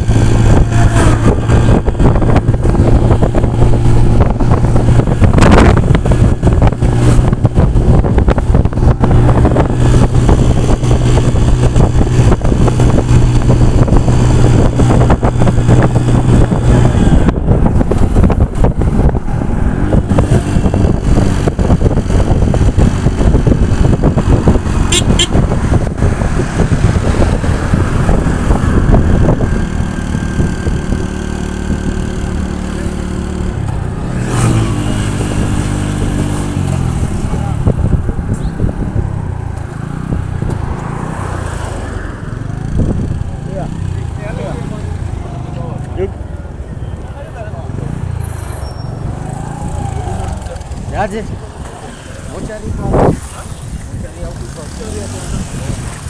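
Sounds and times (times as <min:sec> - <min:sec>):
motorcycle engine running: 0:00.0 - 0:41.1, 0:42.3 - 0:46.7
road and wind noise: 0:00.0 - 0:56.0.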